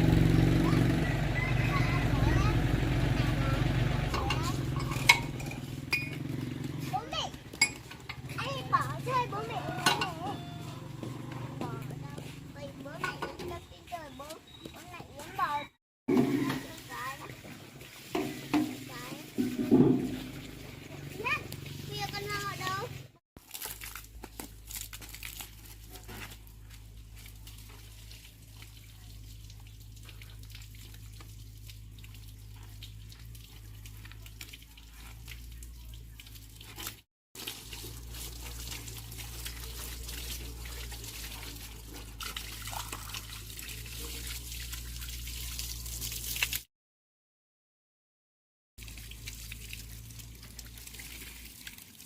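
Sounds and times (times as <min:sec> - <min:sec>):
water running and splashing: 0:00.0 - 0:15.5, 0:16.1 - 0:46.7, 0:48.8 - 0:52.0.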